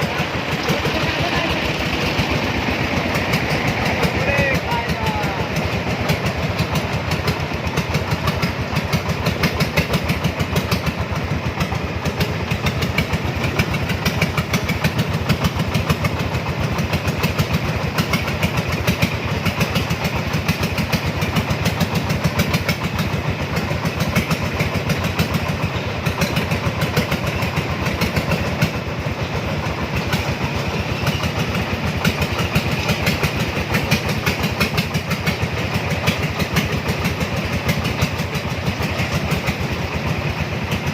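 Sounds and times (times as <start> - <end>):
three-wheeler engine running: 0.0 - 40.9.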